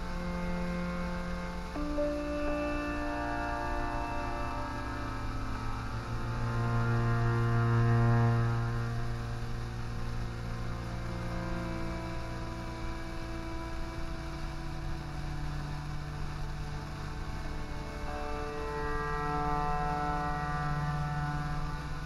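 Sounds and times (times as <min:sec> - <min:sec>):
ambient electronic drone music: 0:00.0 - 0:22.0.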